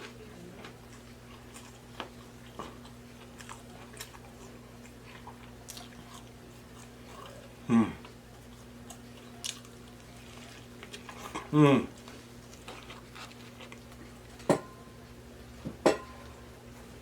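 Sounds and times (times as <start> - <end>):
chewing and biting food: 0.0 - 14.5.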